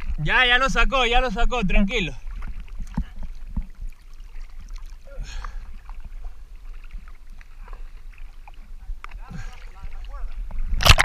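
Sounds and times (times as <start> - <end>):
low rumble of waves: 0.0 - 11.0
sea water lapping and sloshing: 0.0 - 11.0
small splashes: 1.9 - 11.0.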